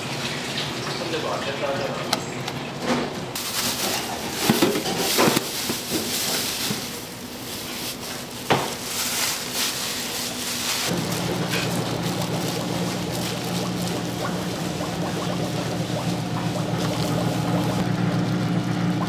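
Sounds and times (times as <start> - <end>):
plastic crinkling and rustling: 3.4 - 18.8.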